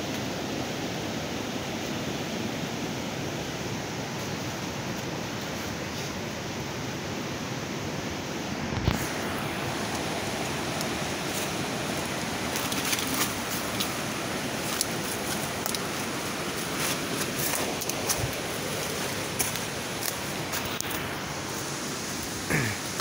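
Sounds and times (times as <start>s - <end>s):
steady rushing hiss: 0.0s - 23.0s.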